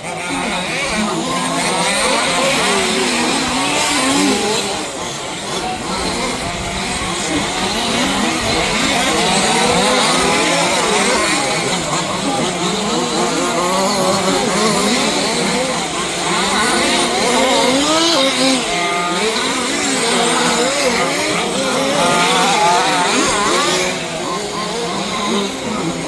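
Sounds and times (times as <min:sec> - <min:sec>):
rc car engines racing: 0:00.0 - 0:26.0.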